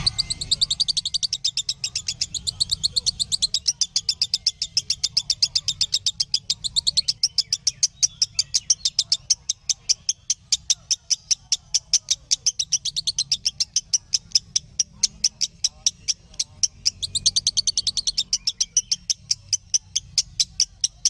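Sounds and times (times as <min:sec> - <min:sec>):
lovebird chirping: 0:00.0 - 0:21.0.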